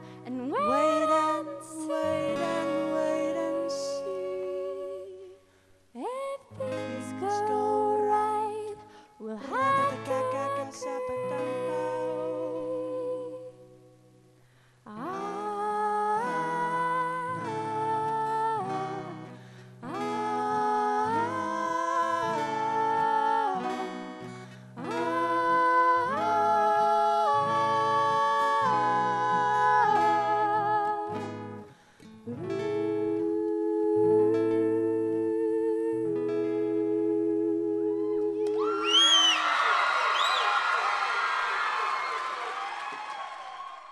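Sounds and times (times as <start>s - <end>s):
person humming a melody: 0.0s - 5.4s, 6.0s - 13.8s, 14.9s - 24.1s, 24.8s - 31.6s, 32.3s - 38.6s
acoustic guitar: 0.0s - 41.1s.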